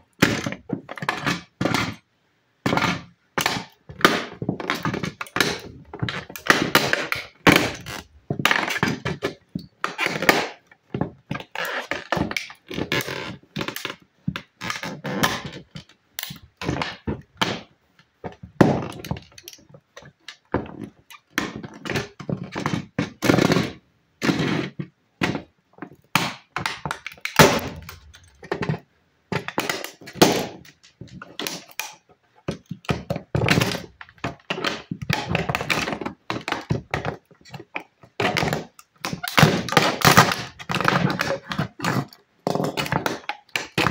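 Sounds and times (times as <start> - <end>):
cleats stomping on toy bus: 2.7 - 43.9.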